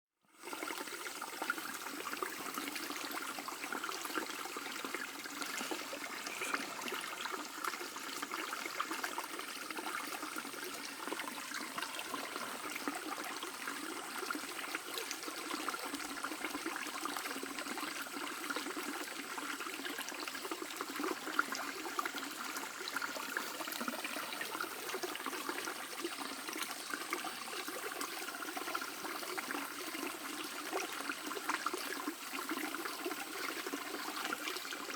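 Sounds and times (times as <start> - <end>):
stream burbling over stones: 0.3 - 34.9.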